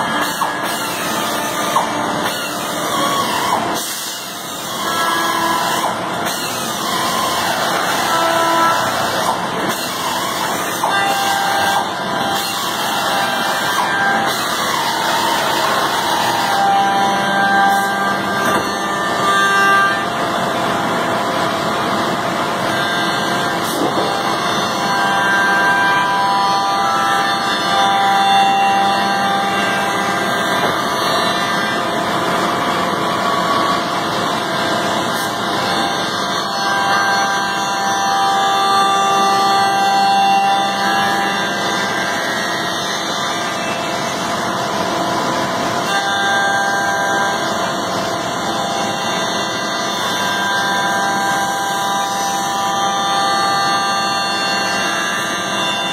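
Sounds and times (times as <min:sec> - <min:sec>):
cnc wood machine running: 0:00.0 - 0:55.9.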